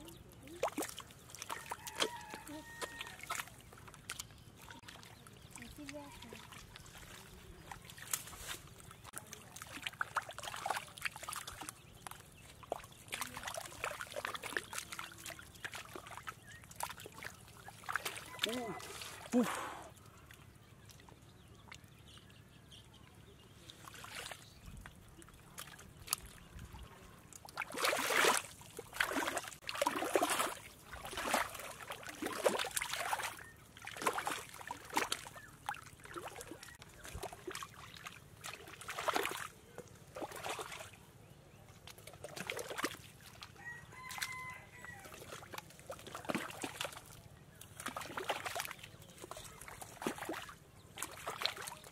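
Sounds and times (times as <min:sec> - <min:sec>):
feet and hands sloshing in mud: 0:00.0 - 0:51.9.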